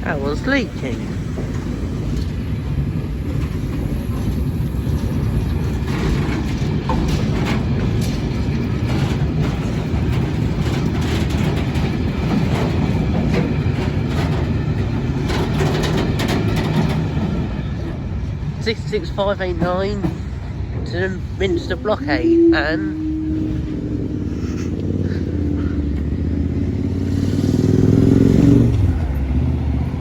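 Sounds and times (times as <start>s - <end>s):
train rumble: 0.0s - 30.0s
train wheels clicking over rail joints: 0.0s - 30.0s.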